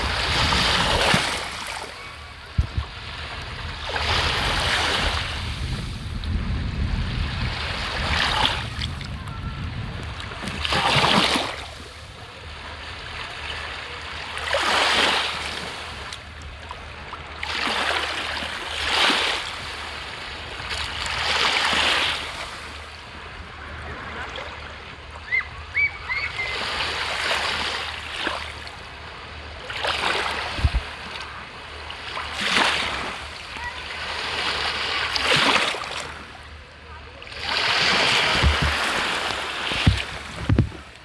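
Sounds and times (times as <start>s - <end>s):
waves washing against shore: 0.0s - 41.0s.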